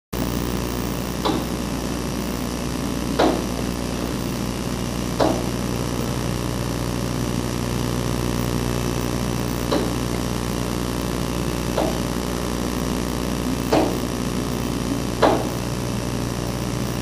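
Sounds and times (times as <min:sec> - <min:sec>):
motor hum: 0:00.2 - 0:17.0.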